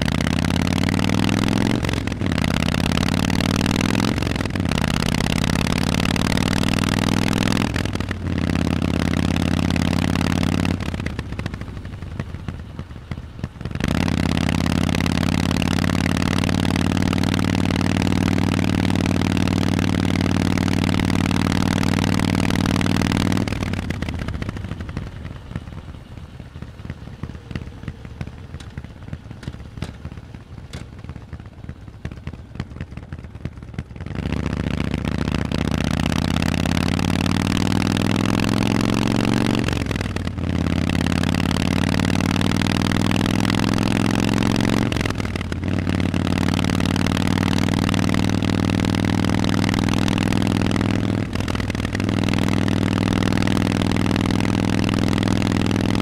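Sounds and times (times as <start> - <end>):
motorcycle engine rumble: 0.0 - 56.0
exhaust crackles: 7.8 - 56.0.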